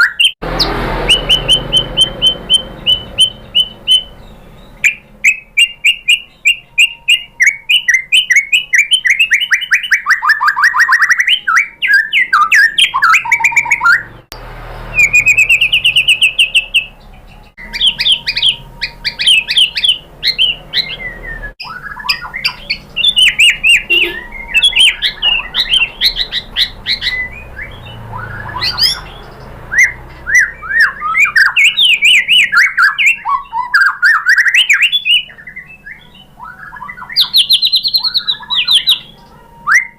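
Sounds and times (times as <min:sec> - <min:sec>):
songbird singing varied song: 0:00.0 - 0:14.3, 0:14.9 - 0:39.9.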